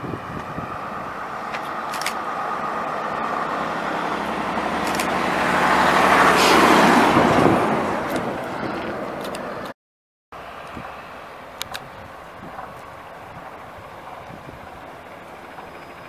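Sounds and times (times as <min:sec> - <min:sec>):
bus diesel engine passing: 0:00.0 - 0:09.8, 0:10.4 - 0:16.0.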